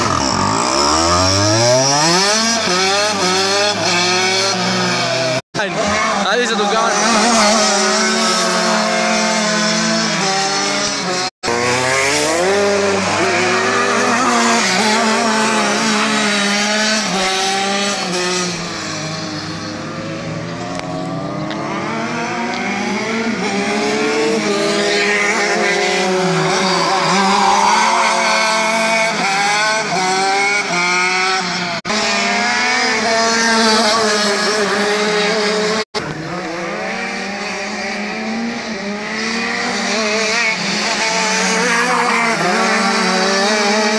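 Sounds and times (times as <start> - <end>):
go-kart engines revving: 0.0 - 43.9.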